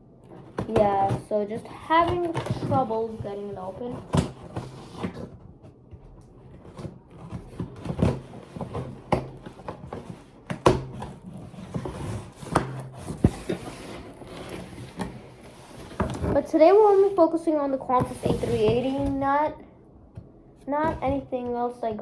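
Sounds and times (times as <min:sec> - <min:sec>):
box being handled: 0:00.2 - 0:17.2, 0:17.8 - 0:19.3, 0:20.8 - 0:21.4.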